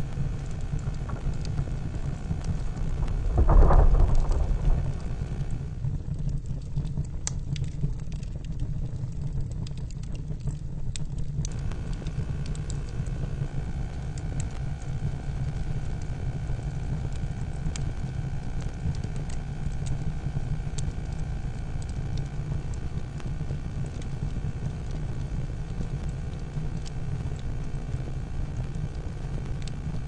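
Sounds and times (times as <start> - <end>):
faint steady hum: 0.0 - 30.0
fire crackling and popping: 0.0 - 30.0.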